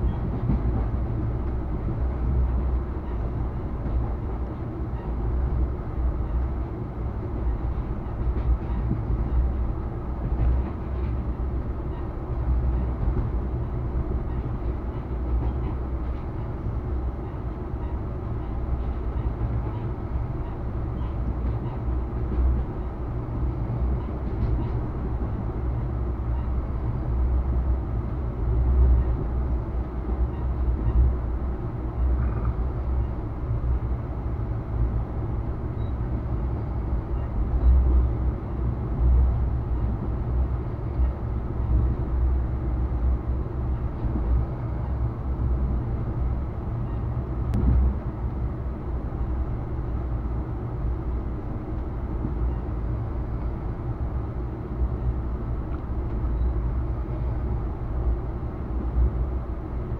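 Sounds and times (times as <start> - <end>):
passenger train rumbling: 0.0 - 59.9.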